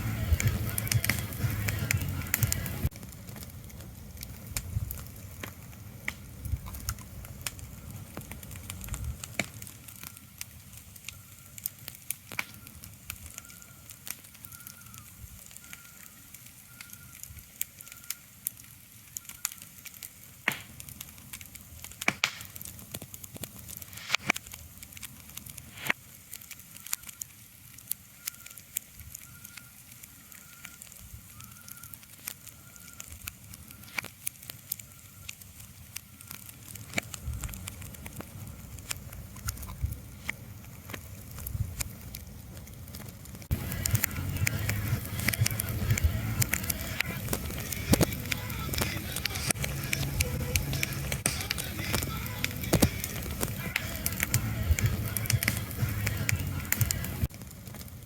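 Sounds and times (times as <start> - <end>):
crackles and sharp pops: 0.0 - 58.0.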